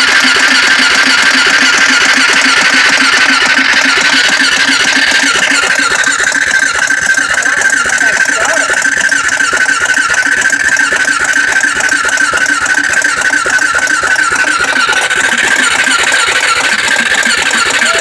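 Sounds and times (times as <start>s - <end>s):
electric starter cranking engine: 0.0s - 18.0s.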